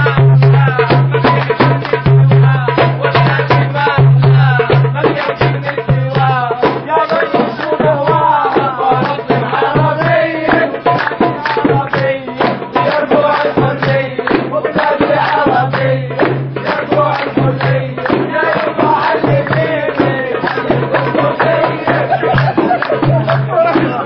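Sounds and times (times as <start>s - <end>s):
fast folk drum beat: 0.0s - 24.0s
person singing: 0.0s - 24.0s
hands clapping: 0.9s - 2.1s, 4.7s - 24.0s.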